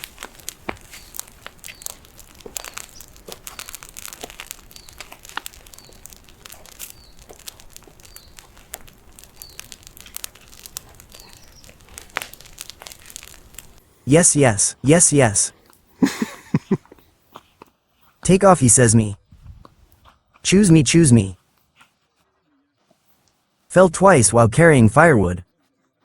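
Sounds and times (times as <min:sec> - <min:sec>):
campfire crackling and popping: 0:00.0 - 0:22.2.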